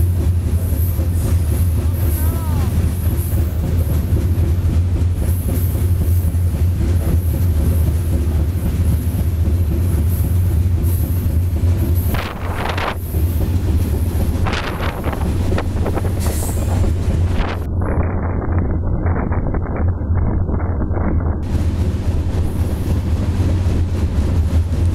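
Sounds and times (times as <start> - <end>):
high-pitched rail noise: 0.0 - 23.8
freight train rumbling and rattling: 0.0 - 24.9.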